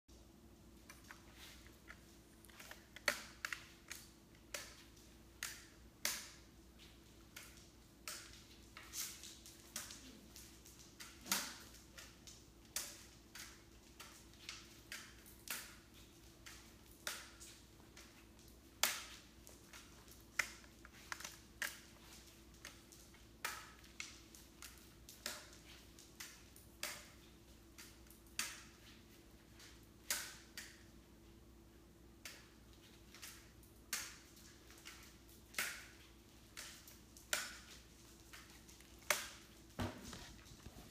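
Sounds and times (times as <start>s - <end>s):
faint steady hum: 0.1s - 40.9s.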